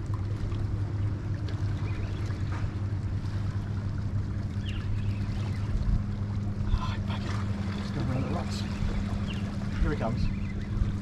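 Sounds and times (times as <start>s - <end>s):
steady low motor hum: 0.0s - 11.0s.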